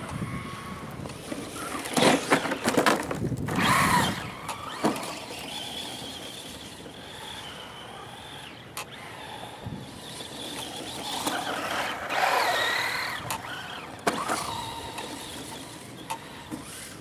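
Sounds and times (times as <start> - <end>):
toy car electric motor whining: 0.0 - 17.0
tyres spinning through snow: 0.0 - 17.0.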